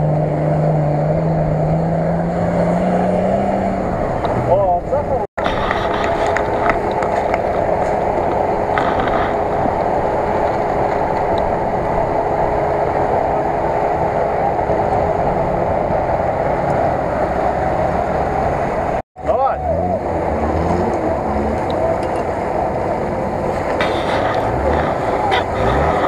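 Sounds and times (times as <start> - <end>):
vehicle engines running under load: 0.0 - 26.0.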